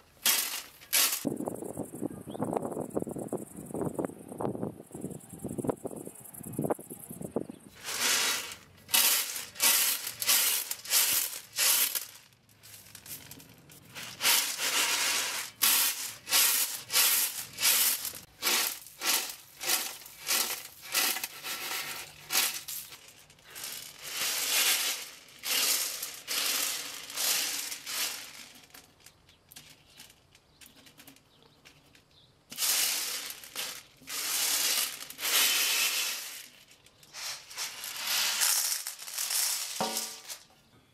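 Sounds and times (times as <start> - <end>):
grain rattling on metal tray: 0.0 - 1.3, 7.8 - 40.5.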